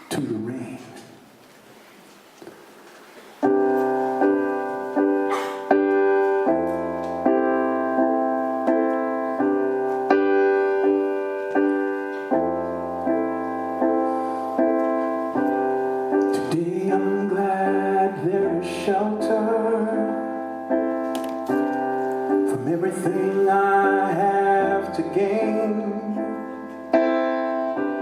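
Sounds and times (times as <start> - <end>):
piano chords: 3.4 - 28.0.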